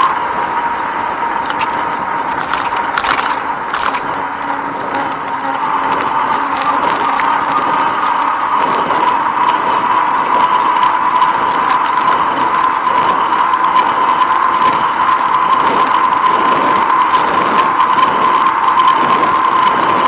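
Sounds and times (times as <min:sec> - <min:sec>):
bicycle whirring: 0:00.0 - 0:20.0
high-pitched whine: 0:00.0 - 0:20.0.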